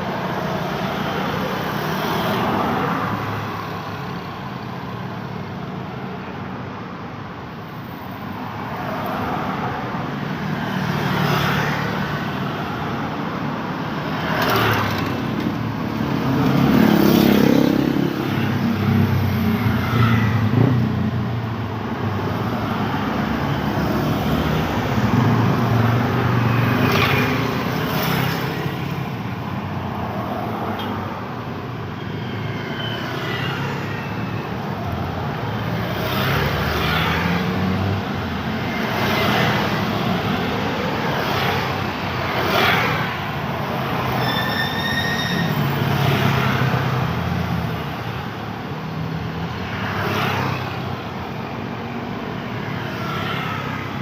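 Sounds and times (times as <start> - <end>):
cars and motorcycles passing: 8.3 - 44.2, 45.4 - 54.0.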